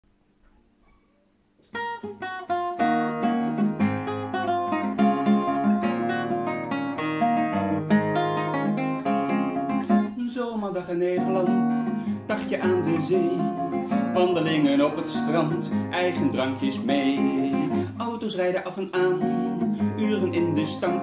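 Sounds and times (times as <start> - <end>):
classical guitar plucked: 1.6 - 21.0.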